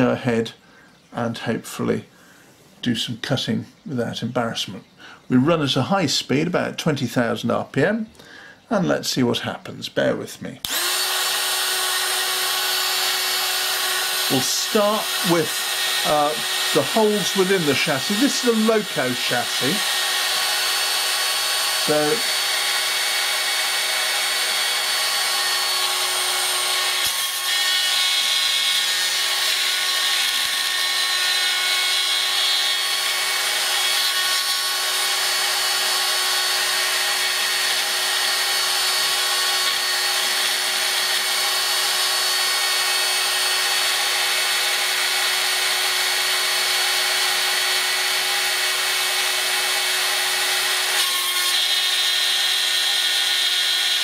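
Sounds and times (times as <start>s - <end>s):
rotary drill high-pitched whine: 10.7s - 54.0s.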